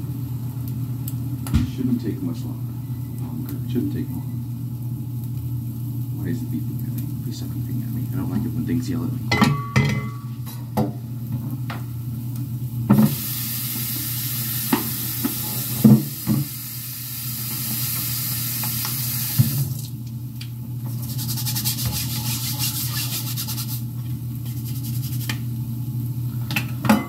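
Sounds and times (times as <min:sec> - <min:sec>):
chicken sizzling in a pan: 0:00.0 - 0:27.0.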